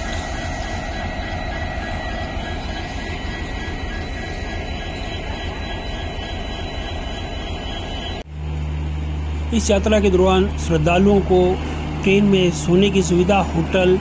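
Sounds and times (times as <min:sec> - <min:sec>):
faint high whine: 0:00.0 - 0:14.0
train coaches rolling past: 0:00.0 - 0:14.0.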